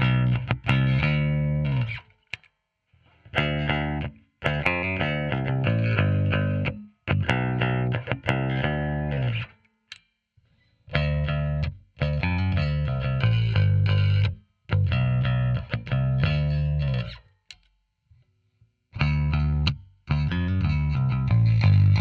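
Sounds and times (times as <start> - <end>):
plucked bass guitar riffs: 0.0 - 2.1, 3.2 - 9.6, 10.9 - 17.3, 19.0 - 22.0.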